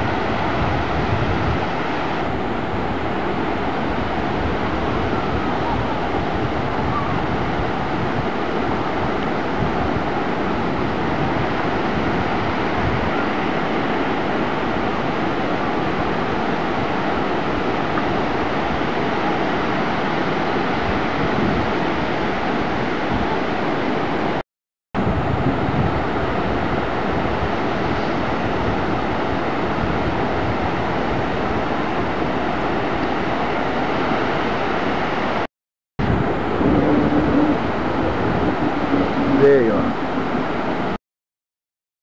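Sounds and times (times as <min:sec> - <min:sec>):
ocean surf breaking: 0:00.0 - 0:24.4, 0:25.0 - 0:41.0
wind on microphone: 0:00.0 - 0:24.4, 0:25.0 - 0:41.0.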